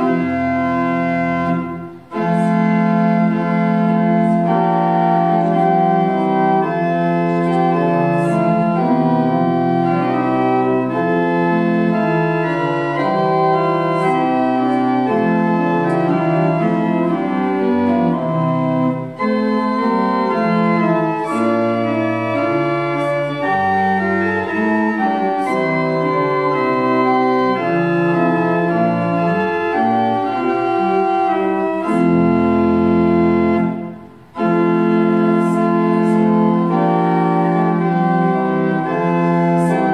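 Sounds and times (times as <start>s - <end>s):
church organ playing a hymn: 0.0s - 39.9s.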